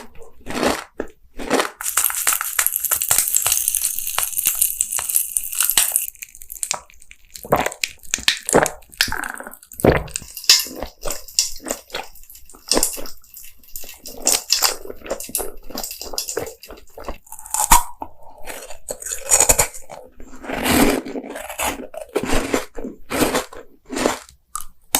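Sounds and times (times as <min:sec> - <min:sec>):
person chewing jelly candies: 0:00.0 - 0:24.9.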